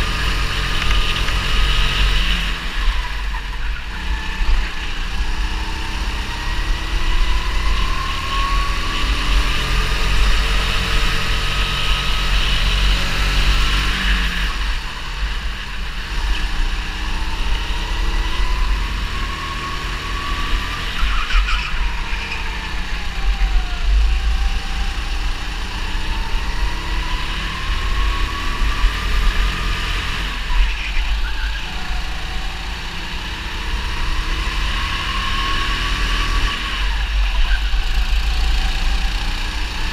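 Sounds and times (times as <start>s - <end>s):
kart engine: 0.0s - 39.9s.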